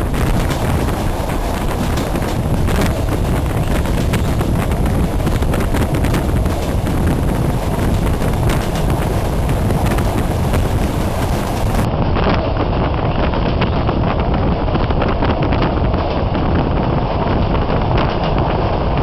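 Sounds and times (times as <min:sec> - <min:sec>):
freight train wheels rattling: 0:00.0 - 0:19.0
train rumble: 0:00.0 - 0:19.0
wind buffeting microphone: 0:00.0 - 0:19.0.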